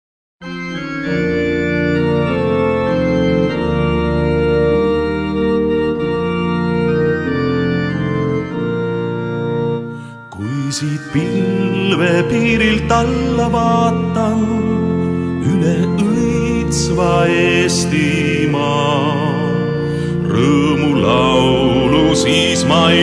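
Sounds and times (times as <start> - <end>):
organ playing held chords: 0.4 - 23.0.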